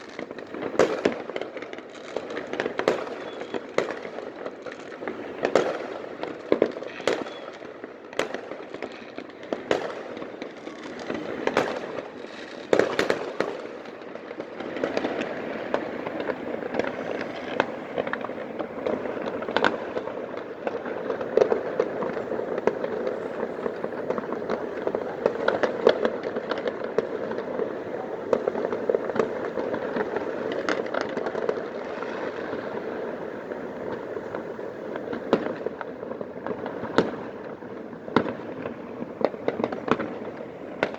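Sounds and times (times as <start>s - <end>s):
fireworks crackle: 0.0s - 40.9s
fireworks pops and bangs: 0.0s - 40.9s.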